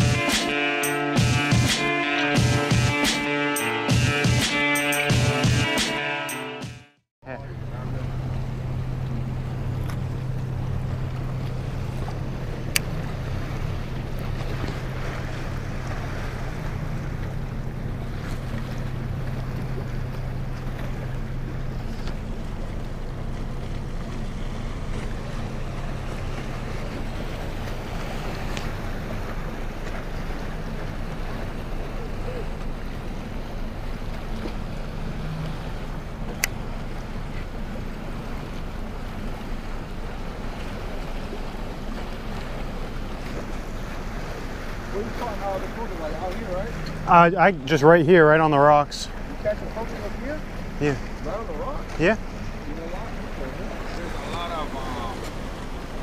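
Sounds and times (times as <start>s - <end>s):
waves washing against a pier: 0.0s - 6.2s, 7.3s - 56.0s
steady low hum: 7.3s - 56.0s.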